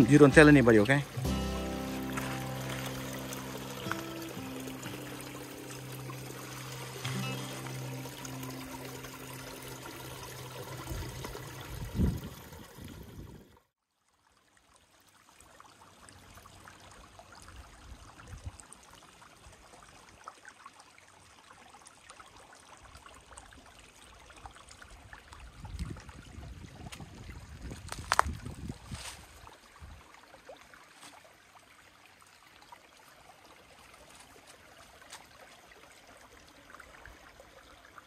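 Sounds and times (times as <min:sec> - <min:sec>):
water trickling: 0:00.0 - 0:38.0.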